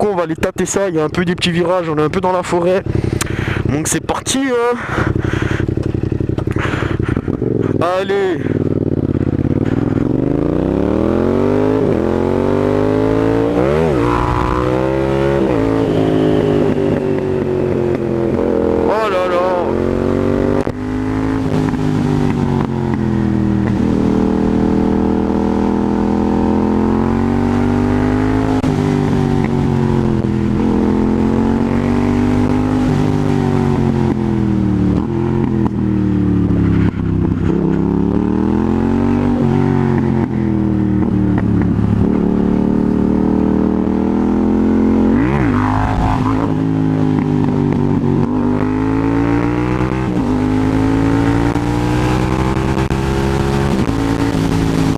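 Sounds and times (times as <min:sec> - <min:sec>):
motorcycle engine revving: 0:02.3 - 0:54.9.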